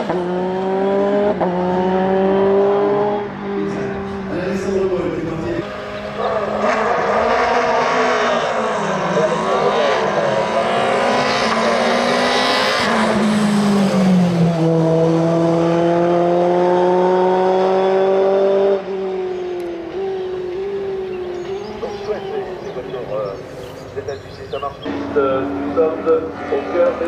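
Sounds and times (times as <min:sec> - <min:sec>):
racing car engine accelerating: 0:00.0 - 0:24.2, 0:24.8 - 0:27.0.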